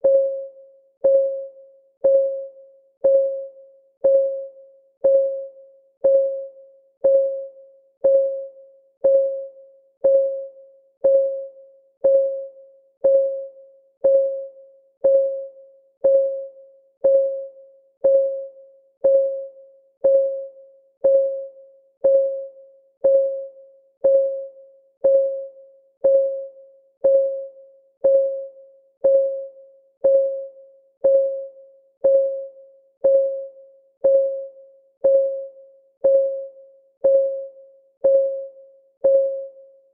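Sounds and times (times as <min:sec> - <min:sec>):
plinking timer ticks: 0:00.0 - 0:39.6.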